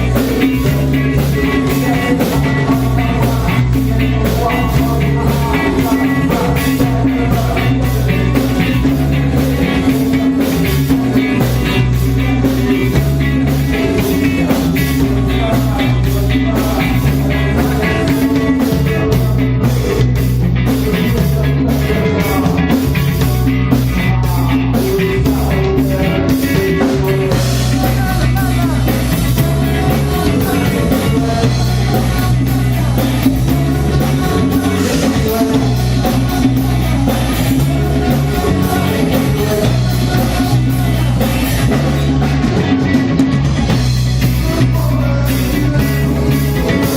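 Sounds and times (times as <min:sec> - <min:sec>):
person singing: 0:00.0 - 0:46.9
rock band playing: 0:00.0 - 0:46.9.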